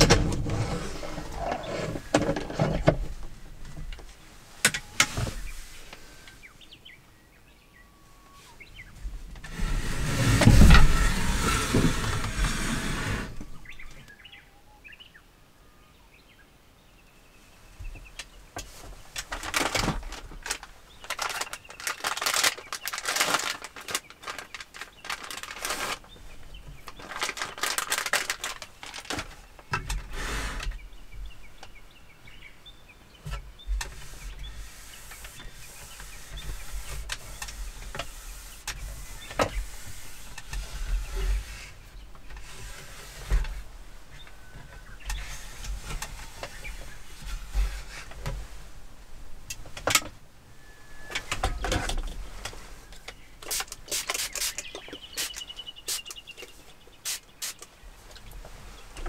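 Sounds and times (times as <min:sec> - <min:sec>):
heavy rain and wind on camper: 0:00.0 - 0:06.8, 0:08.4 - 0:14.3, 0:18.0 - 0:57.1.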